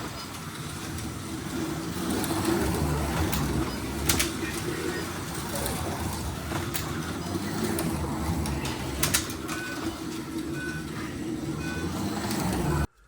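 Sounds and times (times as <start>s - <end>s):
small electric motors whirring: 0.0s - 12.9s
cars rumbling on plastic track: 0.0s - 13.0s.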